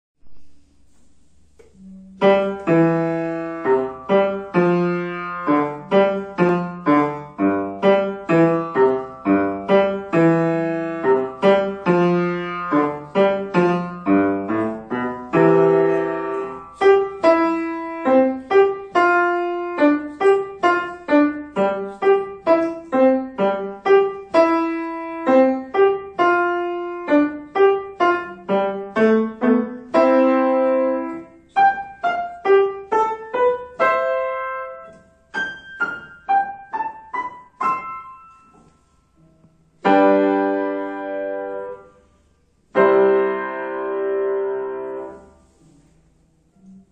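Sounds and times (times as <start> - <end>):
grand piano playing: 1.6 - 45.6.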